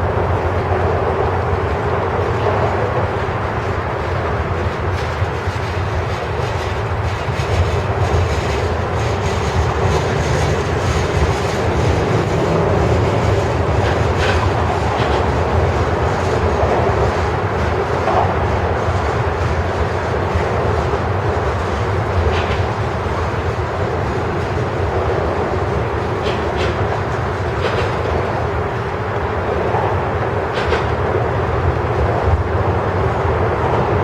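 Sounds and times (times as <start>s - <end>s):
train wheels rumbling on rails: 0.0s - 34.0s
wheel clacks: 2.2s - 34.0s.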